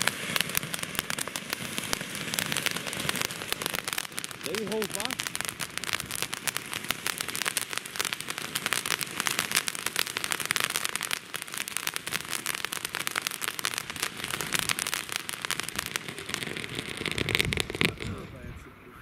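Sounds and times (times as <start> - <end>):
firework fountain crackling: 0.0 - 19.0
firework fountain hissing: 0.0 - 19.0.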